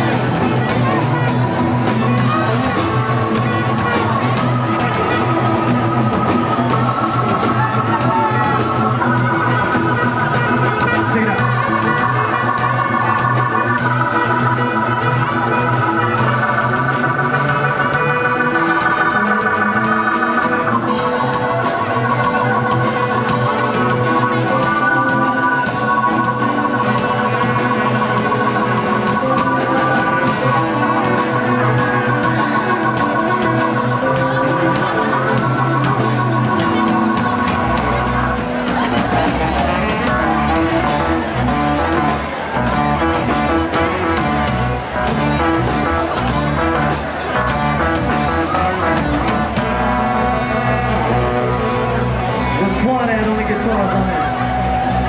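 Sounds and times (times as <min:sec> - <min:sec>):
drum kit: 0:00.0 - 0:55.0
guitar: 0:00.0 - 0:55.0
organ-toned keyboard chords: 0:00.0 - 0:55.0.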